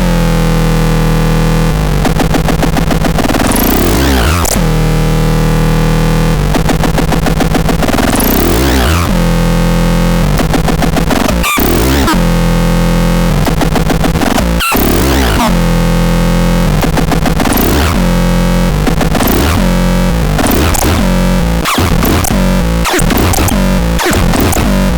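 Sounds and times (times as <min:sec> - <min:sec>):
buzzy synthesizer drone: 0:00.0 - 0:24.9.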